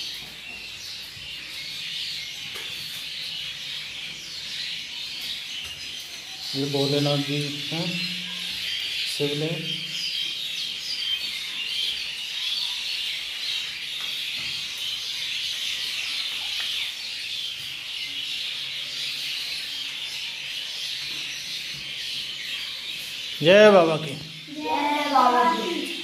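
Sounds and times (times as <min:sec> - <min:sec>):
small birds chirping chorus: 0:00.0 - 0:26.0.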